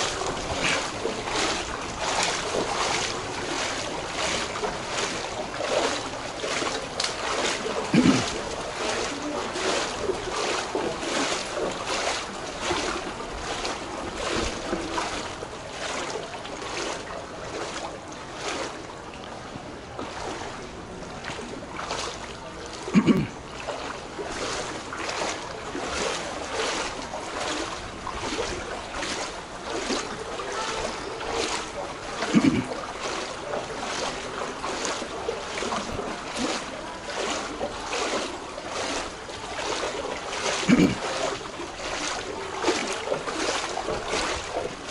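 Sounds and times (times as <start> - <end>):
footsteps splashing through water: 0.0 - 44.9.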